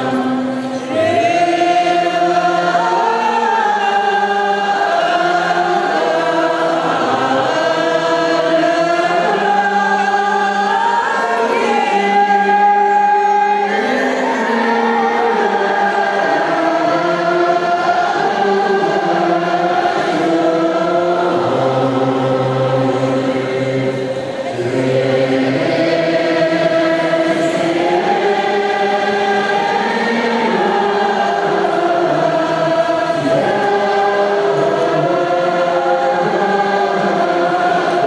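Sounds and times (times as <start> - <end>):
group of voices chanting: 0.0 - 38.0.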